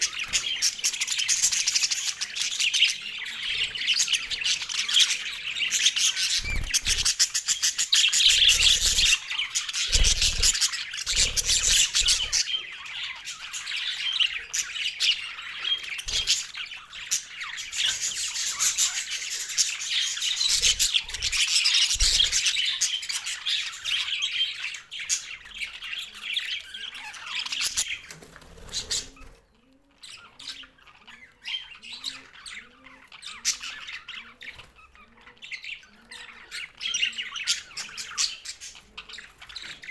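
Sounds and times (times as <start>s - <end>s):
budgerigars chattering: 0.0s - 29.4s, 30.0s - 39.9s.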